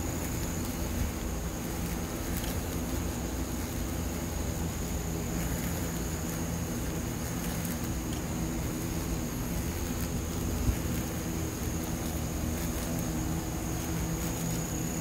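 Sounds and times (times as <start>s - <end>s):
buzzing insect wings: 0.0s - 15.0s.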